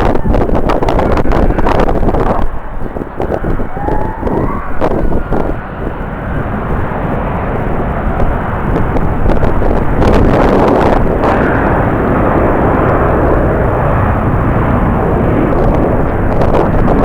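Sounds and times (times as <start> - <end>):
jet airliner engine noise: 0.0 - 17.0
wind buffeting microphone: 0.0 - 17.0.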